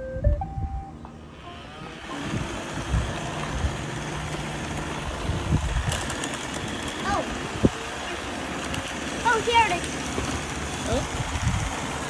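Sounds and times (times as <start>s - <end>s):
robot vacuums whirring: 1.4s - 12.0s.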